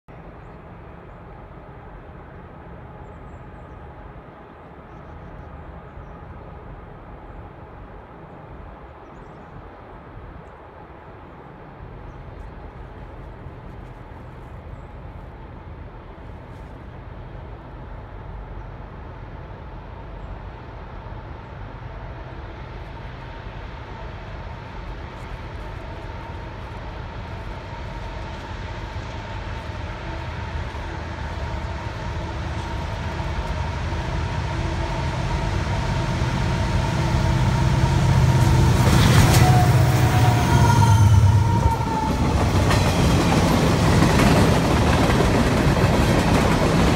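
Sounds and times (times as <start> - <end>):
diesel locomotives passing: 0.1 - 46.9.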